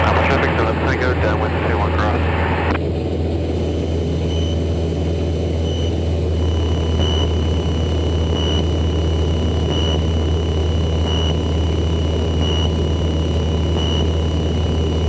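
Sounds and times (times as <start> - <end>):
propeller aircraft engine humming: 0.0 - 15.0.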